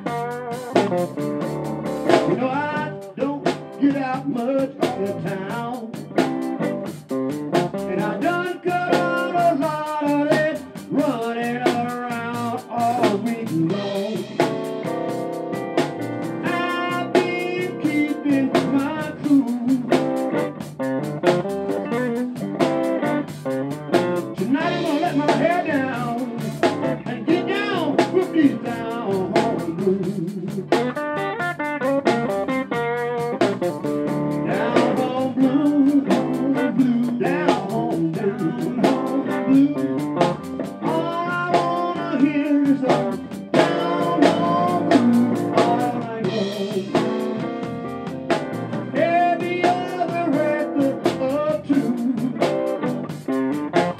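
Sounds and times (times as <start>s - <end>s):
drum kit: 0.0s - 53.9s
electric bass: 0.0s - 53.9s
electric guitar: 0.0s - 53.9s.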